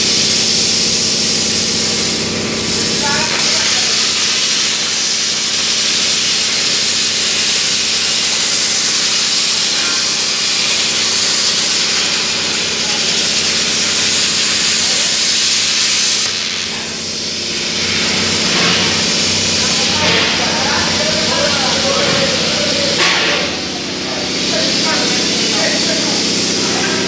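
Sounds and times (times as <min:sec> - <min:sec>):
plasma torch hissing: 0:00.0 - 0:27.0.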